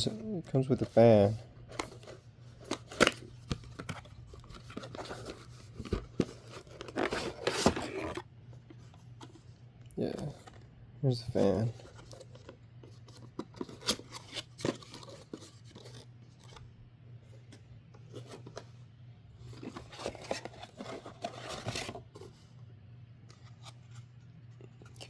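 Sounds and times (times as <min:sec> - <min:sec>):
packaging rustling and scraping: 0:00.0 - 0:22.6.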